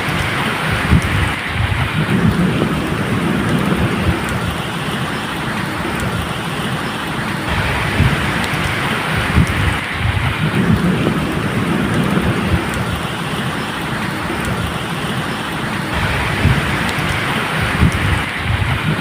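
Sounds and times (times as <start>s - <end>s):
rain falling: 0.0s - 19.0s
thunder rumbling: 0.0s - 19.0s.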